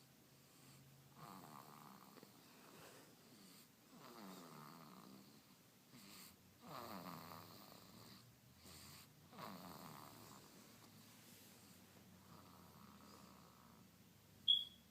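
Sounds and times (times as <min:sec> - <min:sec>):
faint snoring: 0:00.4 - 0:11.0, 0:11.6 - 0:13.9.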